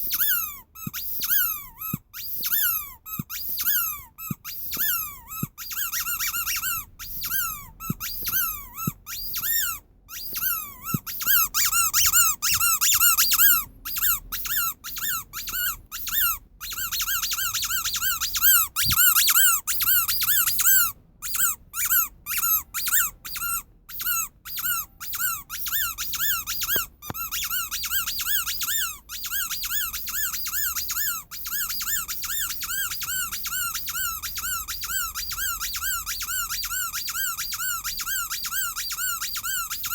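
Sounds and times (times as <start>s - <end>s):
squeaky toy squeaks: 0.0s - 39.9s.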